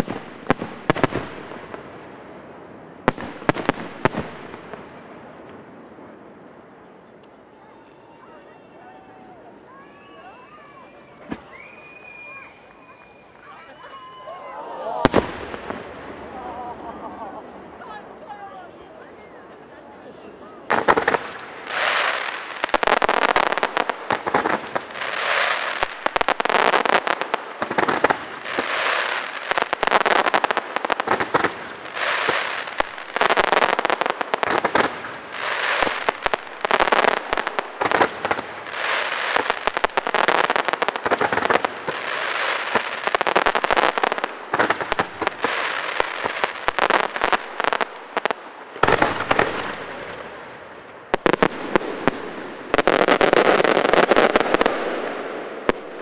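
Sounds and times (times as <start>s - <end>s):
fireworks pops and bangs: 0.0s - 8.1s, 9.6s - 14.2s, 15.0s - 16.4s, 20.7s - 56.0s.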